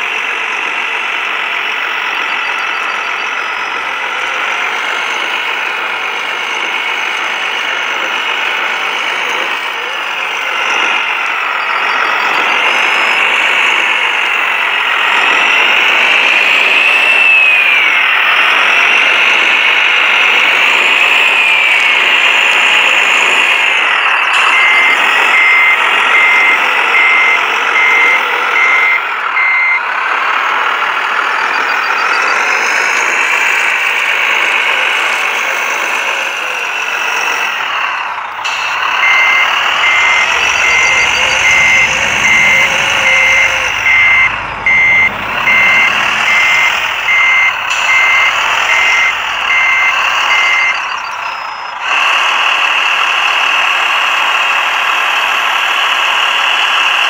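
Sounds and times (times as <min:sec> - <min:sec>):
hydraulic pump motors whining: 0:00.0 - 0:57.0
reversing beeps: 0:00.1 - 0:53.6.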